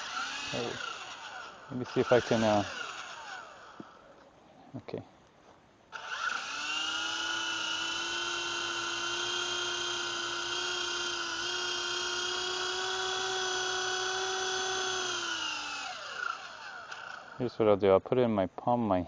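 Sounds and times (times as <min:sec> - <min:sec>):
toy helicopter rotor whine: 0:00.0 - 0:04.0, 0:06.0 - 0:17.6.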